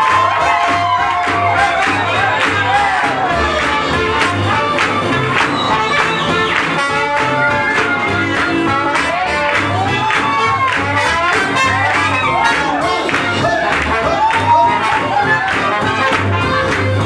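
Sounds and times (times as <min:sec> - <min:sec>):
bass line: 0:00.0 - 0:17.0
horns playing tune: 0:00.0 - 0:17.0
steady beat: 0:00.0 - 0:17.0.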